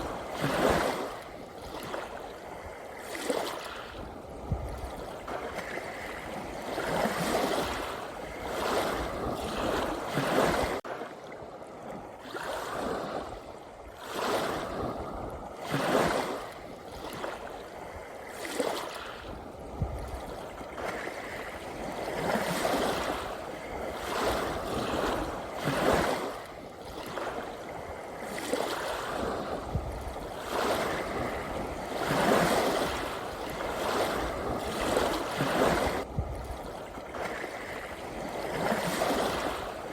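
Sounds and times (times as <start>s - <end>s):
small sea waves splashing: 0.0s - 39.9s.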